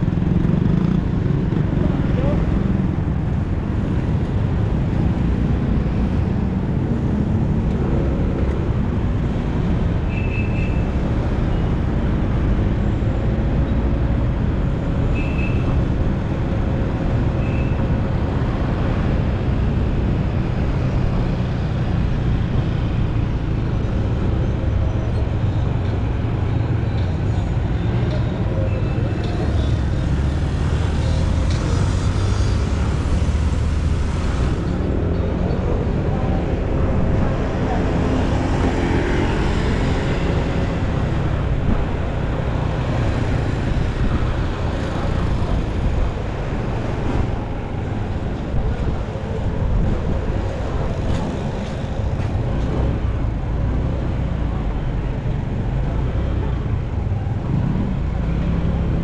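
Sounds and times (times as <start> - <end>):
road noise: 0.0 - 59.0
street traffic: 0.0 - 59.0.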